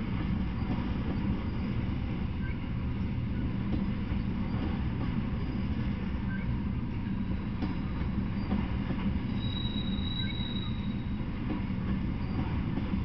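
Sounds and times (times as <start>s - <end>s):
freight train wheels rumbling on rails: 0.0s - 13.0s.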